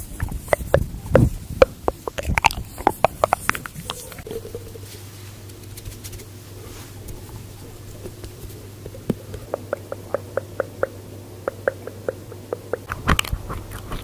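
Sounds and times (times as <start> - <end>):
stomach gurgling: 0.0 - 5.0, 7.0 - 14.0.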